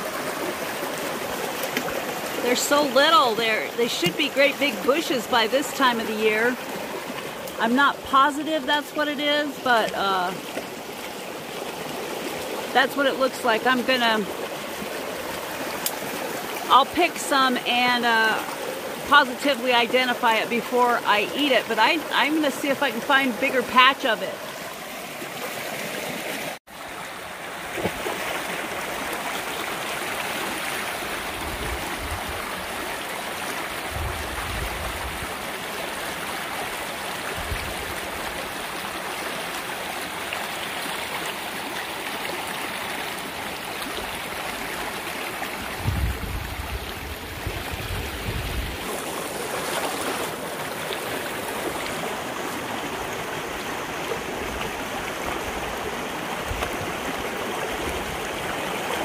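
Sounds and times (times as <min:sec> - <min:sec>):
mountain creek rushing over stones: 0:00.0 - 0:59.0.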